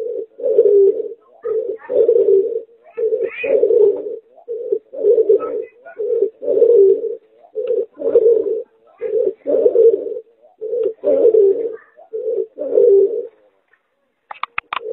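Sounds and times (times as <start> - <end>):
dove cooing: 0.0 - 13.6, 14.5 - 14.9.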